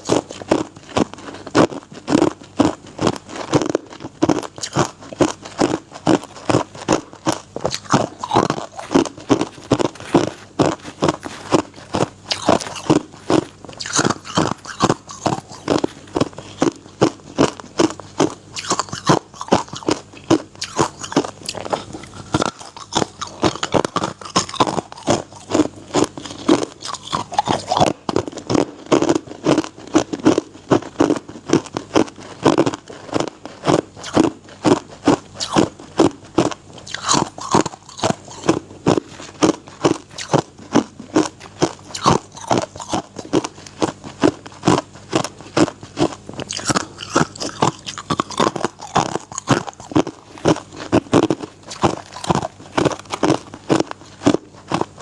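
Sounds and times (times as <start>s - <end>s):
chewing crunchy ice: 0.0s - 55.0s.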